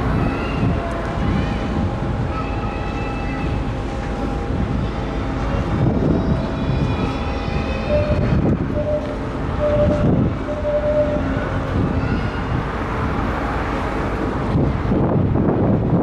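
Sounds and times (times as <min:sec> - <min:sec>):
ship engines rumbling: 0:00.0 - 0:16.0
wind buffeting microphone: 0:00.0 - 0:16.0.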